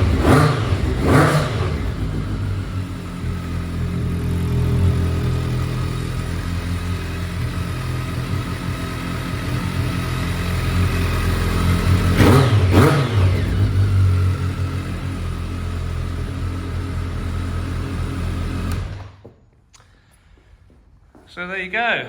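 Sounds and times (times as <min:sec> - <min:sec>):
motorcycle engine idling and revving: 0:00.0 - 0:19.4.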